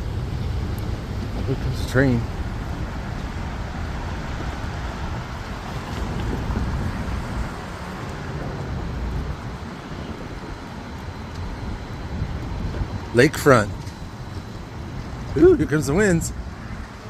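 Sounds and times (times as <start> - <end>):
train passing with low rumble: 0.0 - 17.0
wind noise on microphone: 0.0 - 17.0.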